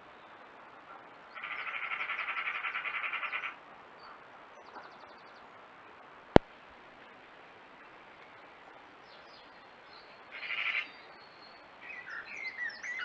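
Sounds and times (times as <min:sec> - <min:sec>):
small birds chirping: 0:00.0 - 0:06.1, 0:07.8 - 0:13.0.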